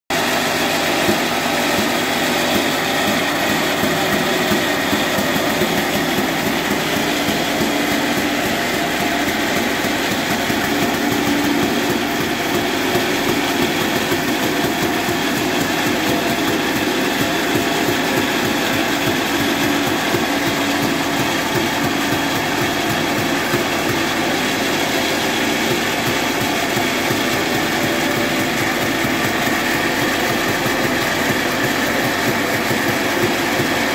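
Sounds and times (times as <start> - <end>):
band saw cutting log: 0.1 - 33.9.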